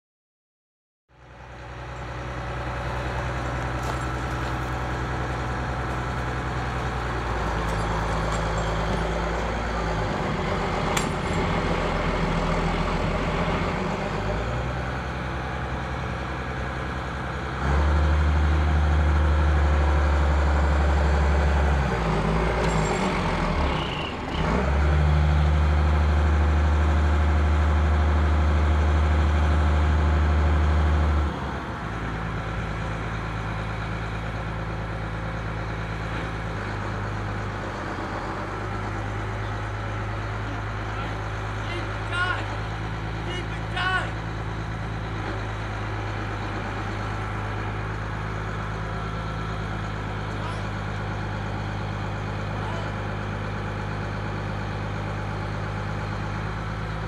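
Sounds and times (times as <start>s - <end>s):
diesel engine running and revving: 1.1s - 57.0s.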